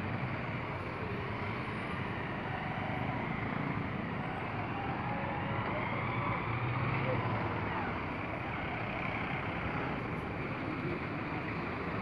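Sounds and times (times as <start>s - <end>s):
congested street traffic idling: 0.0s - 12.0s
low engine hum close by: 0.0s - 12.0s.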